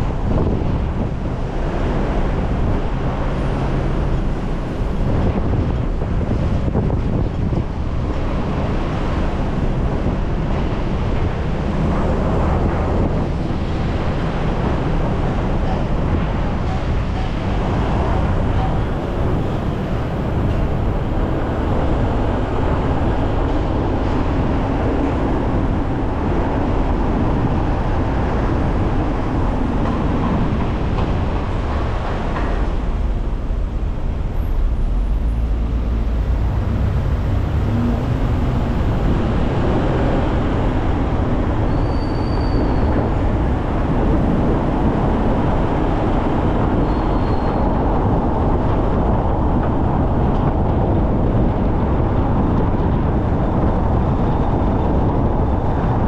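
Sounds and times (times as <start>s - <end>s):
engine and road rumble: 0.0s - 56.0s.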